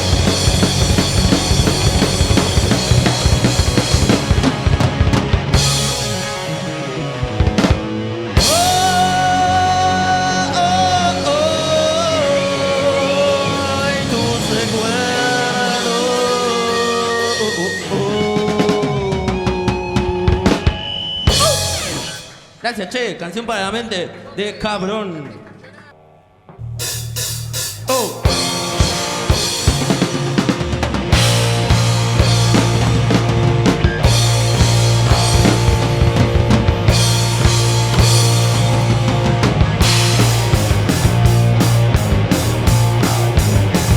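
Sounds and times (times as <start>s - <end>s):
bass guitar: 0.0s - 22.6s, 26.5s - 43.9s
drum kit with cymbals: 0.0s - 22.6s, 26.8s - 43.9s
held lead melody notes: 0.0s - 22.6s, 26.0s - 43.9s
rock band playing live: 0.0s - 22.6s, 26.8s - 43.9s
distorted electric guitars: 0.0s - 22.7s, 25.2s - 43.9s.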